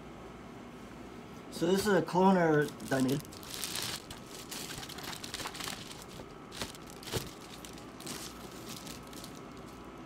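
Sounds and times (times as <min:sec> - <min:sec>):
foil insulation crinkling: 0:01.6 - 0:10.0.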